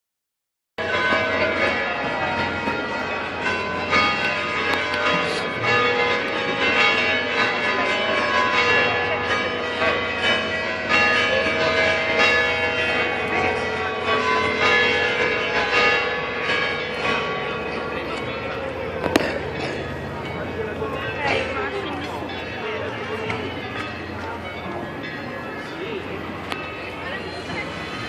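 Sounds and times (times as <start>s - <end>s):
church bells ringing: 0.8s - 28.0s.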